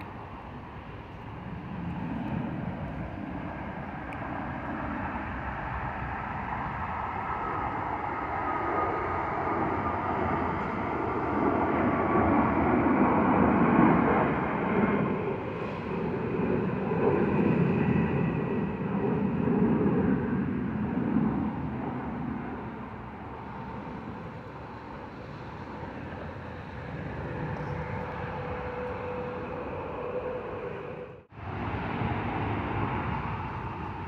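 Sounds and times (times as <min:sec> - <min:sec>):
faint high engine whine: 0:00.0 - 0:34.0
jet engines rushing overhead: 0:00.0 - 0:34.0.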